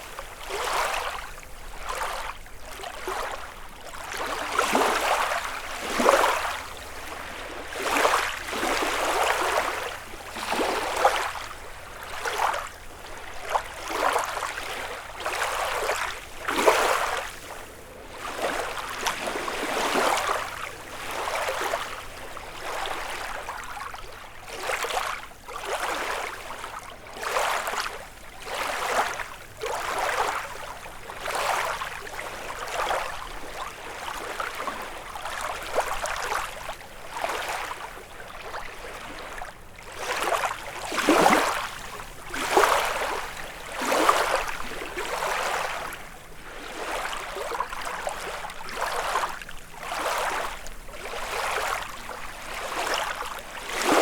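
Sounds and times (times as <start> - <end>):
lake waves lapping on shore: 0.0 - 54.0.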